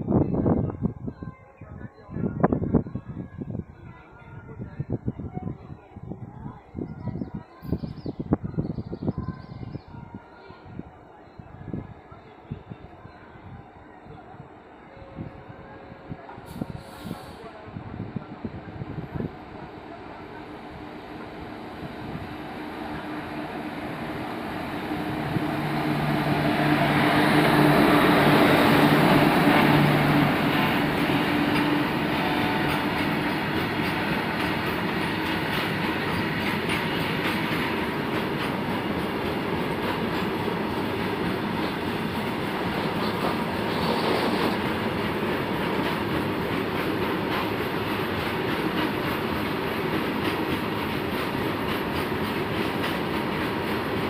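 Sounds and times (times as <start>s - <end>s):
electric locomotive passing: 10.5s - 54.0s.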